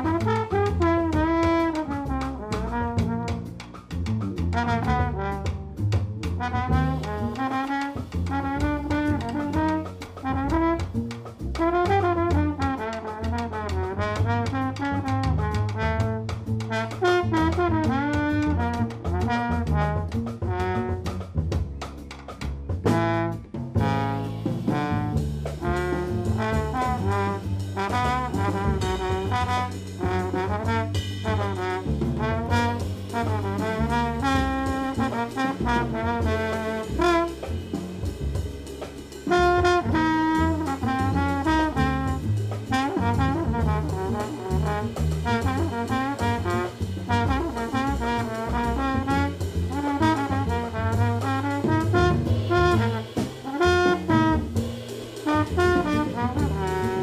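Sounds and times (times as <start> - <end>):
trombone melody: 0.0 - 22.0, 22.8 - 57.0
bass: 0.0 - 57.0
drum kit: 0.0 - 57.0.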